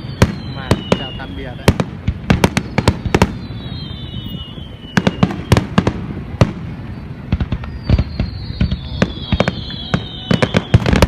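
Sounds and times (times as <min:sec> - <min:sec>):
descending firework whistle: 0:00.0 - 0:11.0
fireworks cracking and banging: 0:00.0 - 0:11.0.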